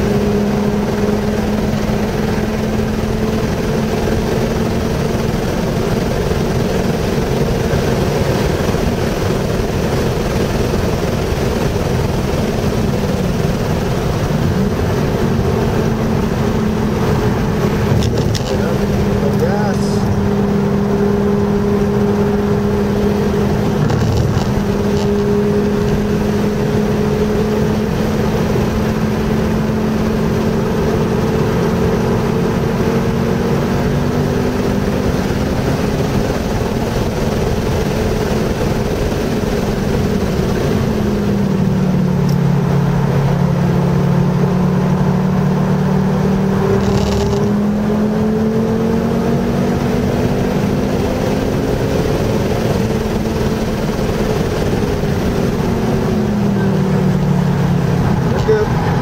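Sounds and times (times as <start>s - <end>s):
car engine running: 0.0s - 59.0s
road and wind noise: 0.0s - 59.0s.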